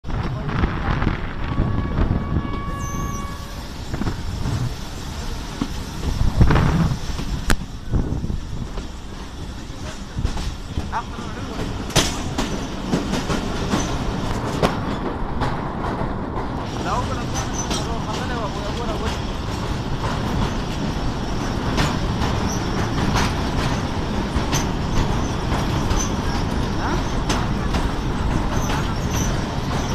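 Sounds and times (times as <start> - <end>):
train rumbling on track: 0.0 - 29.9.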